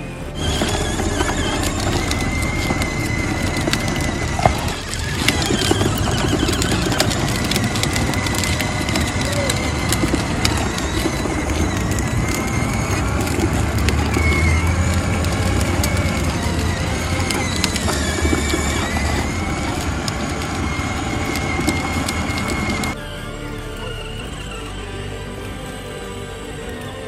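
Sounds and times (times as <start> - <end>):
plastic wheels rumbling on pavement: 0.0 - 27.0.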